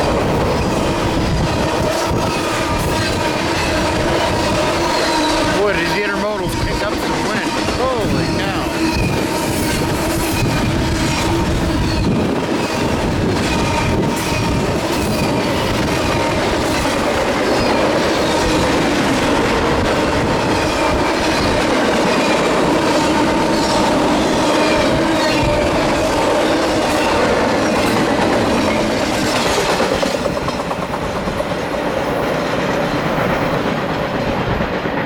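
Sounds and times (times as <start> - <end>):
train wheels rushing on rails: 0.0 - 35.0
wind buffeting microphone: 0.0 - 35.0.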